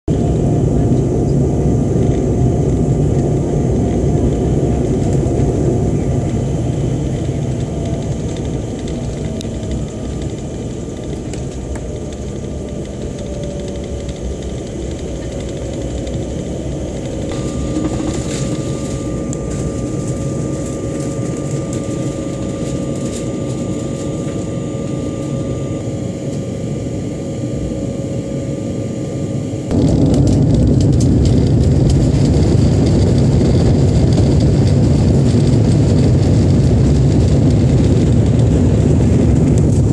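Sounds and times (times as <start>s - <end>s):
engine and wheel rumble: 0.1s - 39.9s
faint steady whine: 0.1s - 39.9s.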